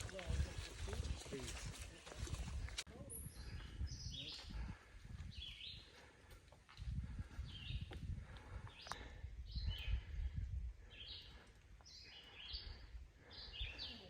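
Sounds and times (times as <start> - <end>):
songbird chirping: 0.1 - 6.3, 7.4 - 10.2, 10.8 - 14.0.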